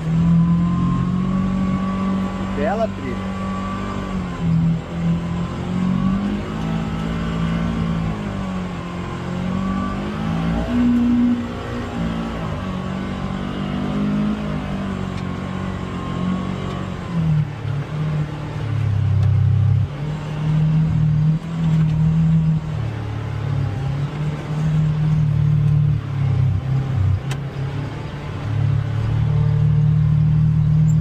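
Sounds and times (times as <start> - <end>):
utility vehicle engine revving: 0.0 - 31.0.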